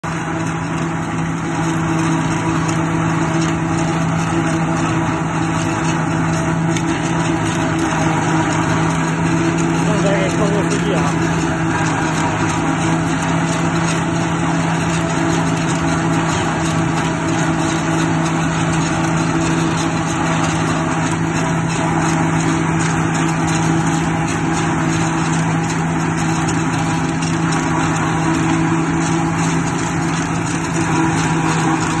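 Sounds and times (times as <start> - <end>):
tractor and harvester running: 0.0 - 32.0.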